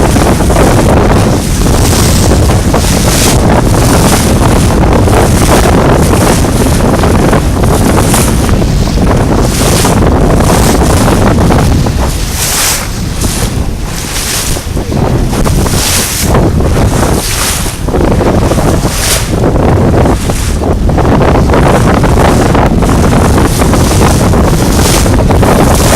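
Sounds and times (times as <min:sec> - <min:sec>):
wind buffeting microphone: 0:00.0 - 0:25.9.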